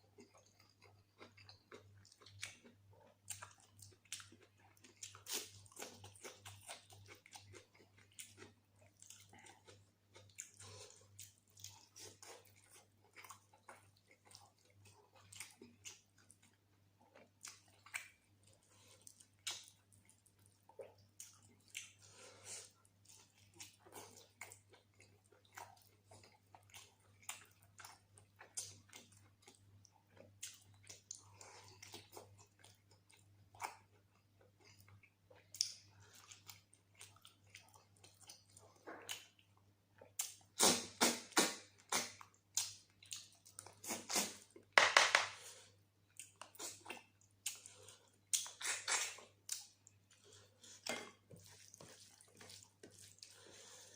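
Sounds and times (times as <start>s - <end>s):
chewing and wet mouth smacks: 0.0s - 53.9s.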